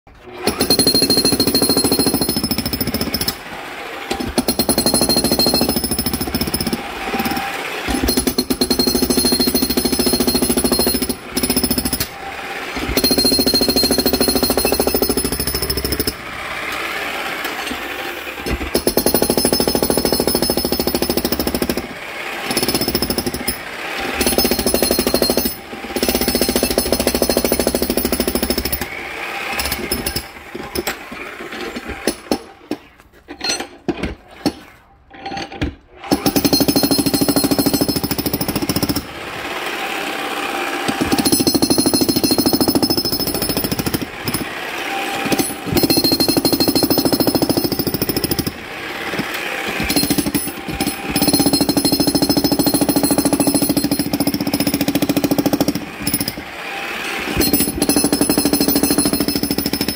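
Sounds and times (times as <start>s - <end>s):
breaker hammer pounding concrete: 0.2s - 34.8s, 35.4s - 40.0s, 40.7s - 59.9s.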